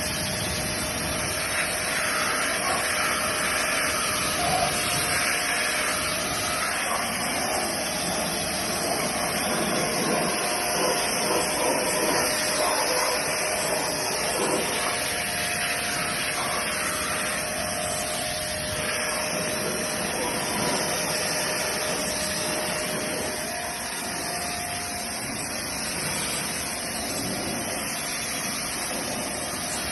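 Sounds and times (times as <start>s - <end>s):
motor whine: 0.0s - 29.9s
pressure washer water hiss: 0.0s - 29.9s.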